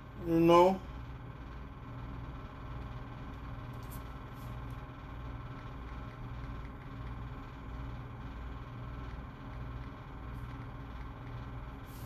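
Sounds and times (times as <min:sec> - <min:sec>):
low indoor hum: 0:00.0 - 0:12.0.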